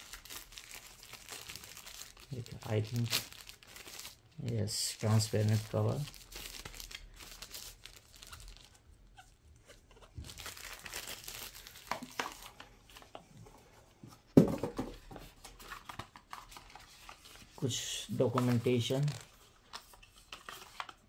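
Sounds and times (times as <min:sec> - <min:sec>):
packaging rustling and crinkling: 0:00.0 - 0:21.0.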